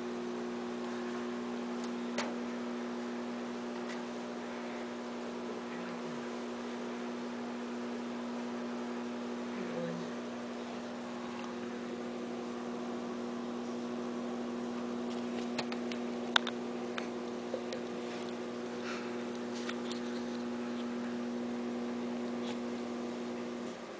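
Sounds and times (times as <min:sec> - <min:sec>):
low electrical hum: 0:00.0 - 0:23.9.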